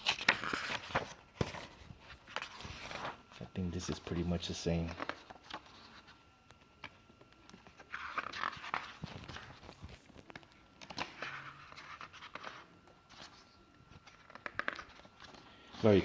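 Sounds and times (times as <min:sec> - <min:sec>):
paper handling clicks: 0:00.0 - 0:04.2, 0:04.8 - 0:15.4
book pages turning: 0:00.0 - 0:16.0.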